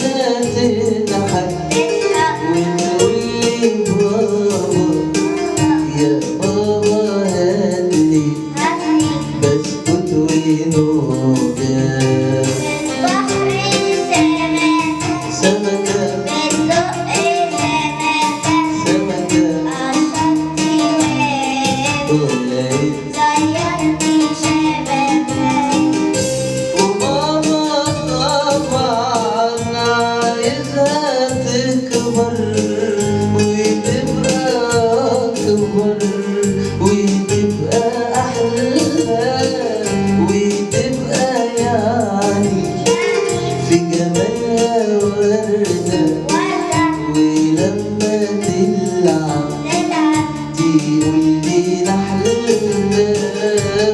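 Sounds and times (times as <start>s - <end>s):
person singing: 0.0s - 53.9s
steady beat: 0.0s - 53.9s.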